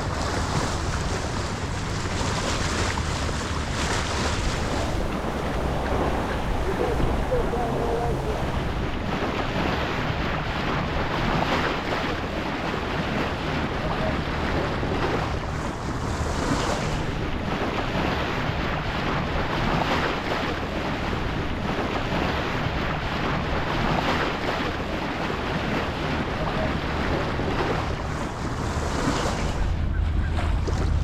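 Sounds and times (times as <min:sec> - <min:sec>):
water splashing along hull: 0:00.0 - 0:31.0
wind buffeting microphone: 0:00.0 - 0:31.0.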